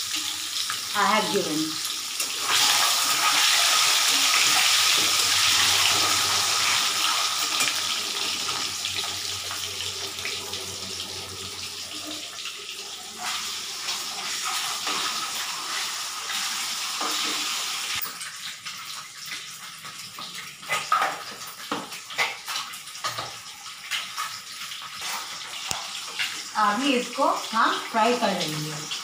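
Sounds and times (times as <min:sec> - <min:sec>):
eggs sizzling in hot oil: 0:00.0 - 0:29.0.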